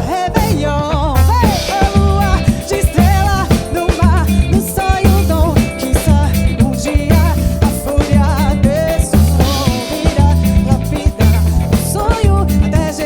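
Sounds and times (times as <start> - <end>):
live band playing samba-funk: 0.0 - 13.0
melodic lead line with vibrato: 0.0 - 13.0.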